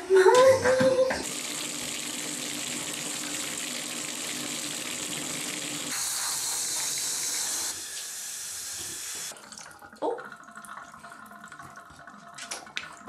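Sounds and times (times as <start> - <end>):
water running from bathtub tap: 0.0 - 13.0.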